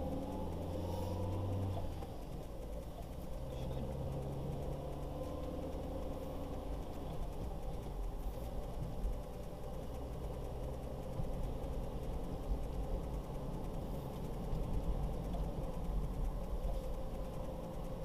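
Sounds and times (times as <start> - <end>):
car engine and road rumble: 0.0 - 18.0
faint steady hum: 0.0 - 18.0.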